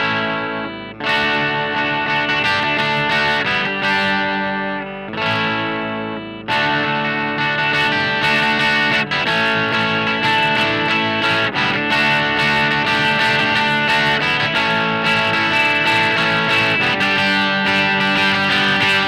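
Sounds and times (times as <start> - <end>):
guitar playing chords: 0.0 - 19.0.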